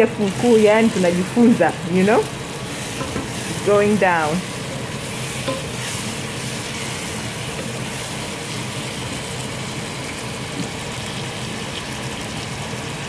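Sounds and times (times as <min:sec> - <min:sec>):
vegetables sizzling in a pot: 0:00.0 - 0:13.0.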